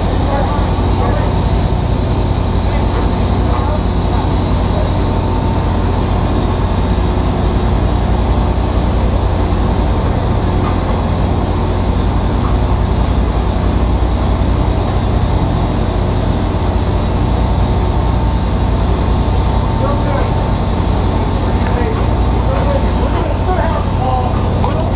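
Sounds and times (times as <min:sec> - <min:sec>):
boat engine droning: 0:00.0 - 0:24.9
thin steady whine: 0:00.0 - 0:24.9.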